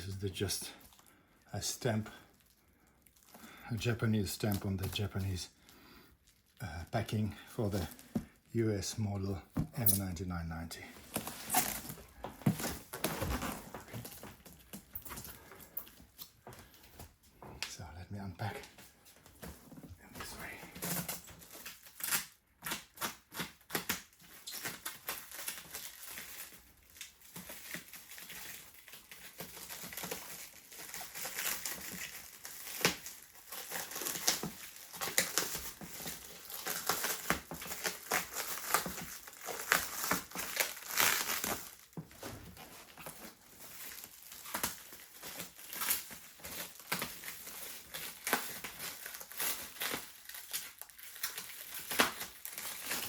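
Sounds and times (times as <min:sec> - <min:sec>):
plastic wrap crinkling and tearing: 0:00.0 - 0:17.0, 0:19.4 - 0:53.0.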